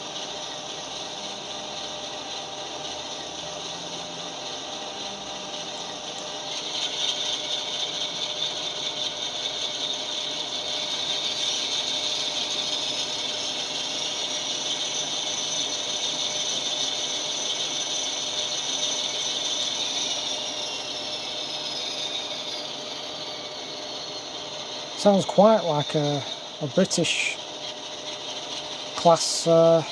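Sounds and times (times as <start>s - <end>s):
model motor and gears running: 0.0s - 29.9s.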